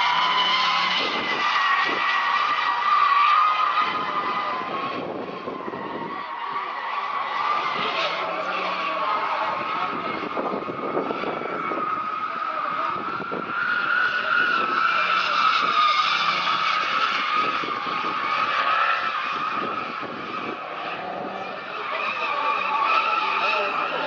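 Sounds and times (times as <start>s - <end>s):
car engine running hard: 0.0s - 24.0s
tyres skidding: 0.0s - 24.0s.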